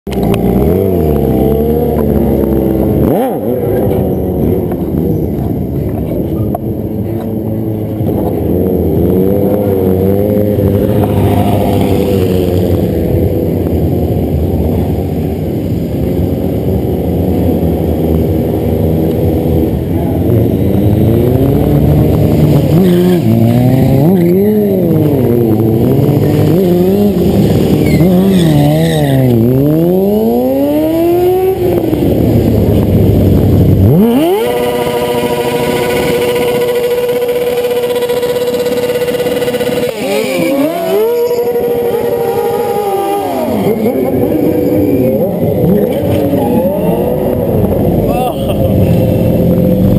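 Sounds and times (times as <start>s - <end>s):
motorcycle engine revving: 0.1s - 49.9s.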